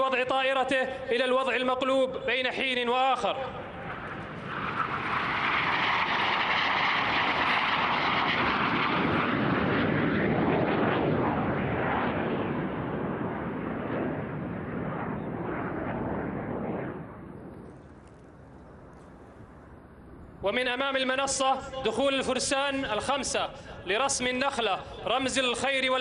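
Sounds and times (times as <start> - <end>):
jet planes flying past: 0.0 - 26.0.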